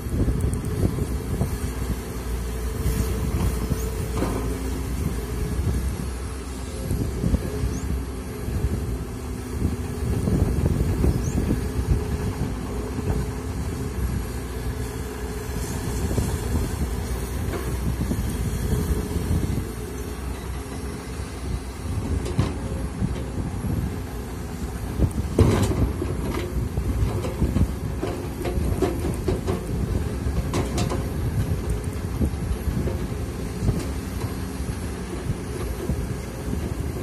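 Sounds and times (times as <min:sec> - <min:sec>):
excavator diesel engine under load: 0:00.0 - 0:37.0
excavator clunk: 0:02.8 - 0:08.2, 0:08.9 - 0:24.0, 0:24.6 - 0:37.0.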